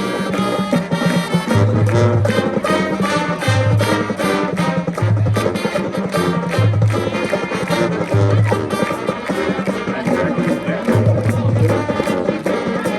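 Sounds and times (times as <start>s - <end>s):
marching band playing: 0.0s - 12.9s
steady drum beat: 0.0s - 12.9s.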